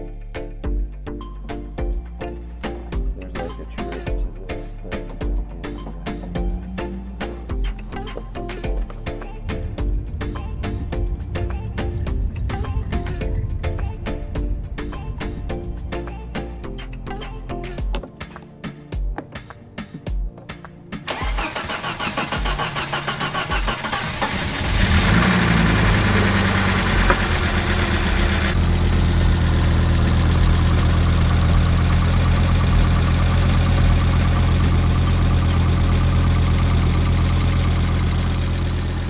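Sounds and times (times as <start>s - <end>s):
car engine cranking and idling: 2.6s - 17.6s, 21.1s - 39.0s.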